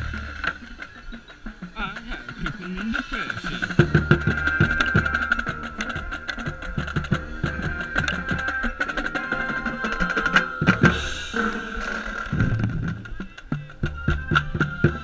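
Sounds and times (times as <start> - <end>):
drumline strokes: 0.0 - 15.0.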